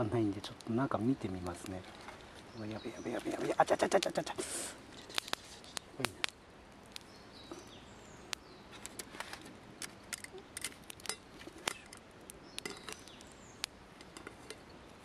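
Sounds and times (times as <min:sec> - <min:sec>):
birds chirping faintly: 0:00.0 - 0:15.0
wood fire crackling: 0:00.0 - 0:15.0.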